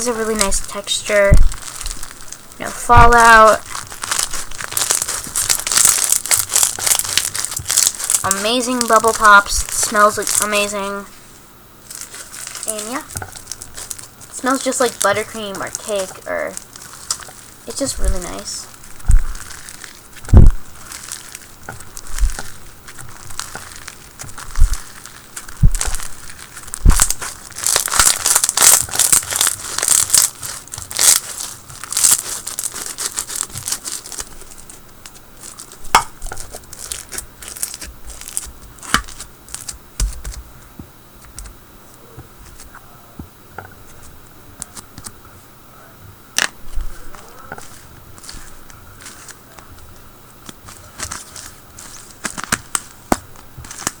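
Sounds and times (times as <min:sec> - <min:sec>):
slime crackling and popping: 0:00.0 - 0:11.0, 0:11.8 - 0:40.4, 0:46.4 - 0:54.0.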